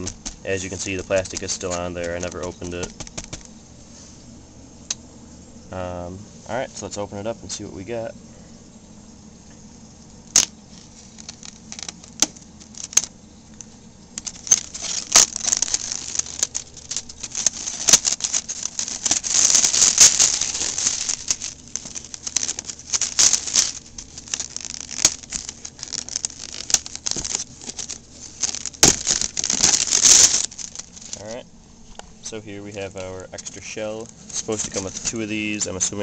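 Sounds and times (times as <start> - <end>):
plastic wrapping rustling: 0.0 - 4.1, 10.3 - 36.0.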